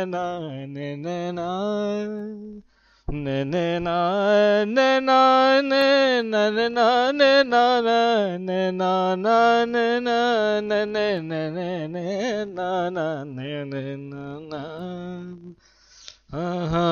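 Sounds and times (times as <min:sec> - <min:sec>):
man singing unaccompanied: 0:00.0 - 0:15.6, 0:16.2 - 0:16.9.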